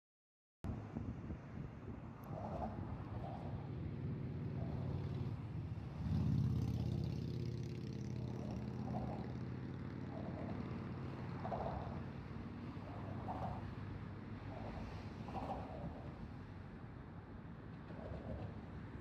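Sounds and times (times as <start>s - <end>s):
traffic engine drone: 0.7s - 19.0s
vehicle passing by: 2.2s - 19.0s.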